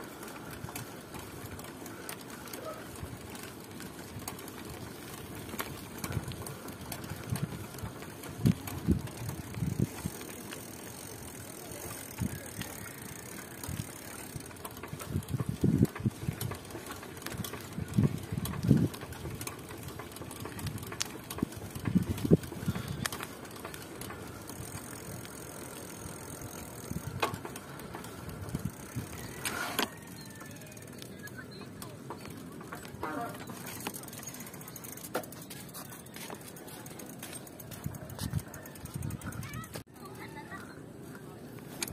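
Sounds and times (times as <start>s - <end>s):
bicycle thumps and rattles: 0.0s - 39.9s.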